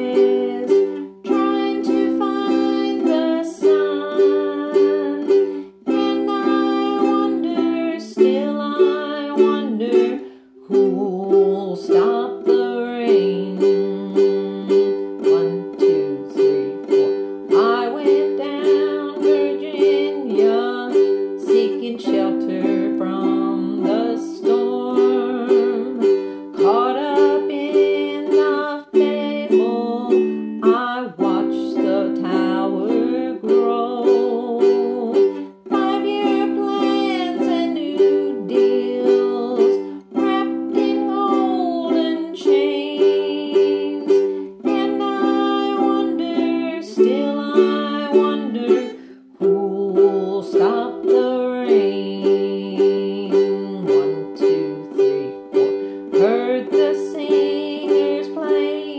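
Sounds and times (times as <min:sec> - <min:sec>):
person singing: 0:00.0 - 0:58.9
ukulele strumming chords: 0:00.0 - 0:58.9.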